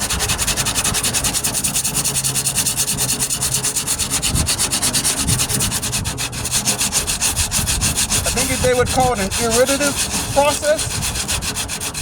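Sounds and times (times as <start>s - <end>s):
sandpaper rasping on body filler: 0.0s - 12.0s.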